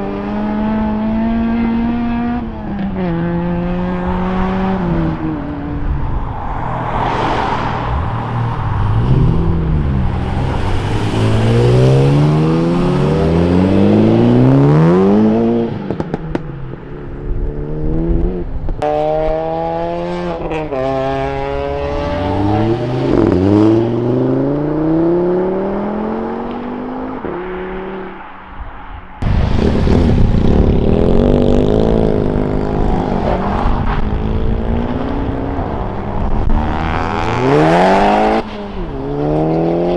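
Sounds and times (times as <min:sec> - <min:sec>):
car engines accelerating: 0:00.0 - 0:39.9.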